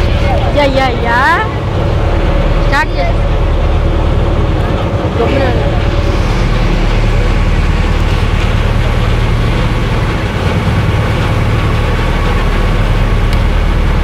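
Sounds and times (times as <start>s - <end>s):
boat engine droning: 0.0s - 14.0s
water rushing along hull: 0.0s - 14.0s.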